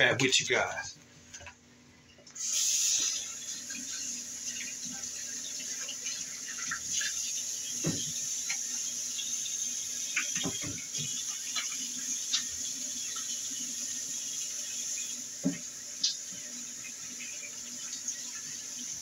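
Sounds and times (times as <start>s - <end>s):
tap water running into sink: 2.4s - 19.0s.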